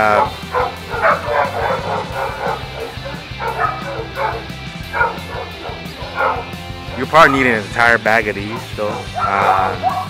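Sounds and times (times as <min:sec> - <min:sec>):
small dogs yapping: 0:00.1 - 0:07.5, 0:08.5 - 0:10.0.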